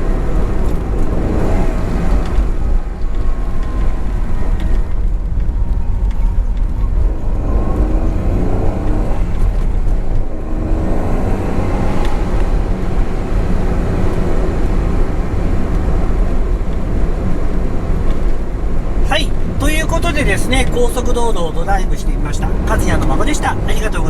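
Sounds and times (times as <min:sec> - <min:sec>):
car engine low rumble: 0:00.0 - 0:24.0.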